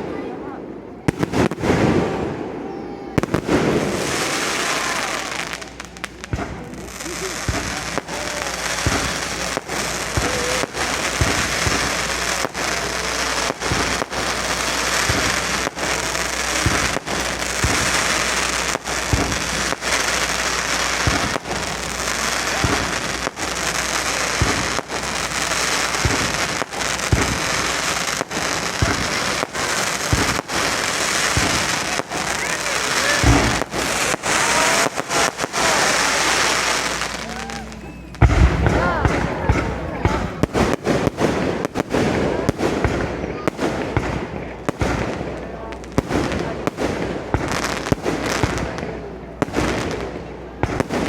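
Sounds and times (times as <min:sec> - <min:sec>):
fireworks booming: 0:00.0 - 0:51.0
fireworks crackling: 0:00.0 - 0:51.0.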